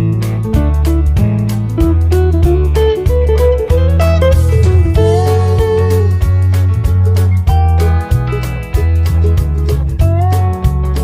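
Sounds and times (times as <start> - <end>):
electric guitar over bass and beat: 0.0 - 11.0.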